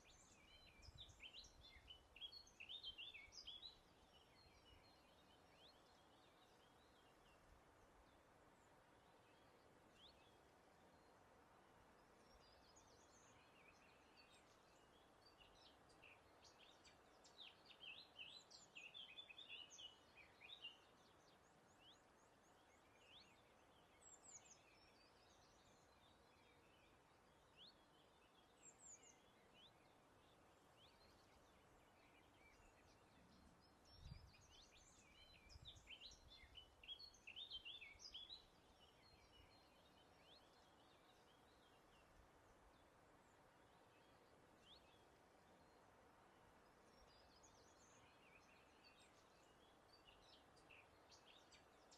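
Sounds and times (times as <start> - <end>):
soft breeze: 0.0 - 51.9
songbirds singing: 0.0 - 51.9.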